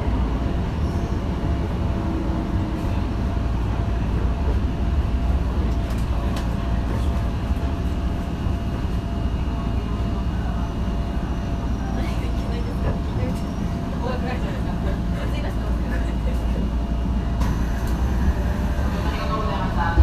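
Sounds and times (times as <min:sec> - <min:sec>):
subway train rumbling: 0:00.0 - 0:20.0.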